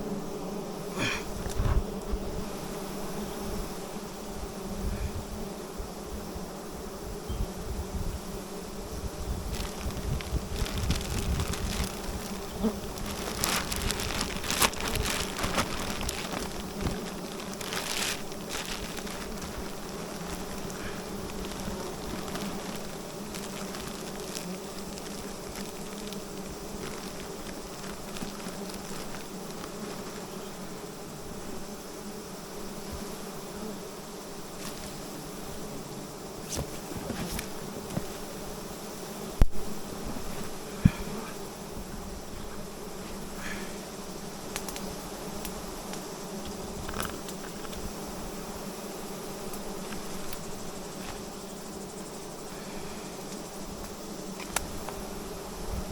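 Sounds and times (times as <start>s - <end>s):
bees buzzing: 0.0s - 55.9s.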